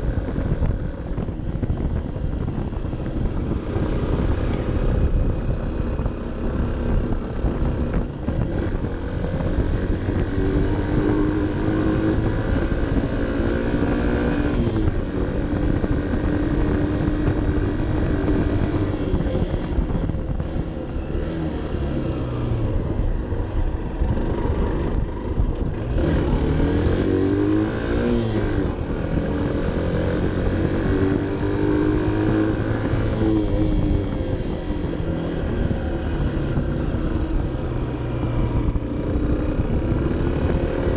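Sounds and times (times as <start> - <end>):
motorcycle engine revving under load: 0.0 - 40.9.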